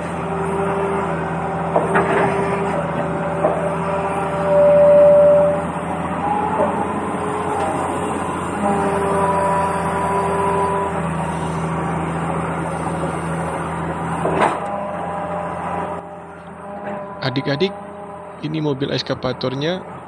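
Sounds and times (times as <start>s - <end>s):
held horn-like tones: 0.0s - 20.0s
toy vehicles mechanical hum: 0.0s - 20.0s.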